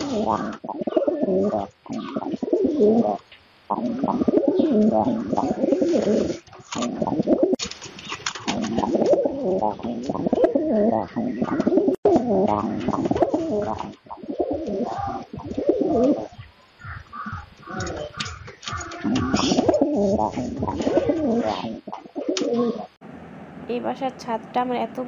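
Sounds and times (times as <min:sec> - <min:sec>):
beaks pecking on steel plate: 0:00.0 - 0:22.8
pigeons cooing: 0:00.0 - 0:23.0.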